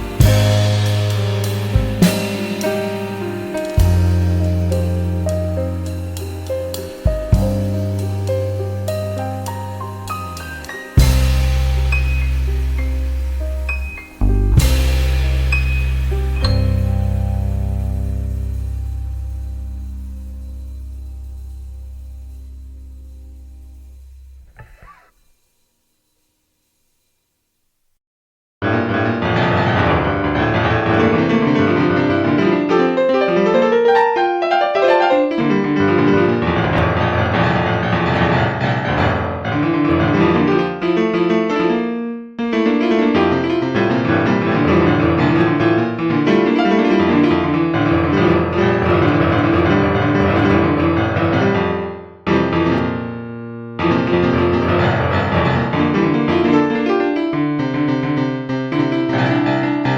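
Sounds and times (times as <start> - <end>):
piano music: 0.0 - 24.7, 28.6 - 59.9.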